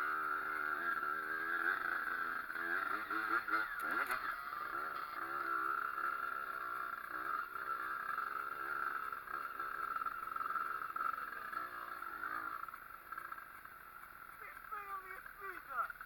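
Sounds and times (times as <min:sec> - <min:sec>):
pit bike engine running: 0:00.0 - 0:16.0.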